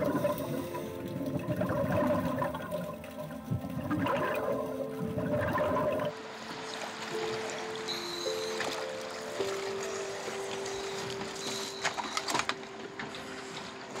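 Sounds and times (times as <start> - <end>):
water splashing: 0.0 - 11.6
underwater rushing and bubbling: 0.0 - 11.8.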